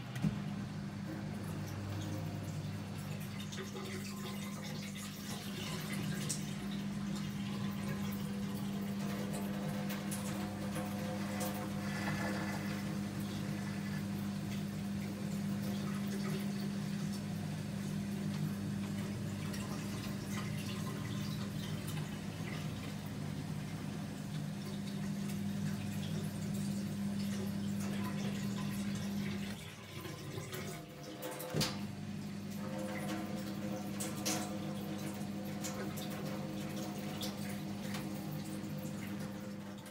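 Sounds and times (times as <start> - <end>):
dishwasher pump hum: 0.0 - 39.9.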